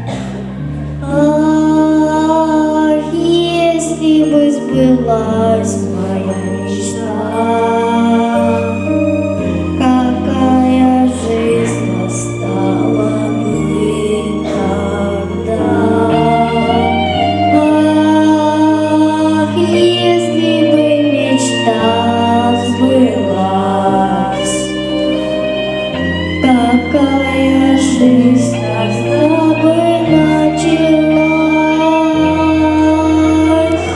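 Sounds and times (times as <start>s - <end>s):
held bass notes: 0.0s - 33.9s
instrumental backing track: 0.0s - 33.9s
person singing: 0.0s - 33.9s.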